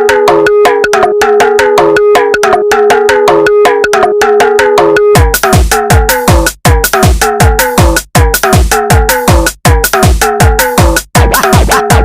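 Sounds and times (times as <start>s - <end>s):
electronic music: 0.0s - 12.0s
kick-drum beat: 0.0s - 12.0s.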